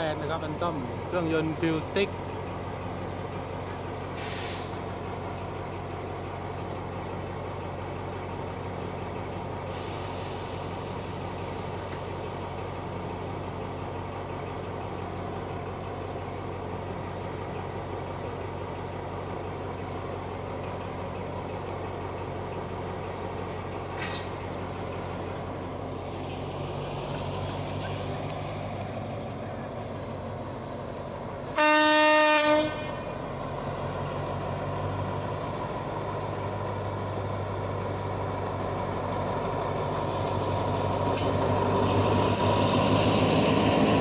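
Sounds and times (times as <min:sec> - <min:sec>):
diesel locomotive idling: 0:00.0 - 0:44.0.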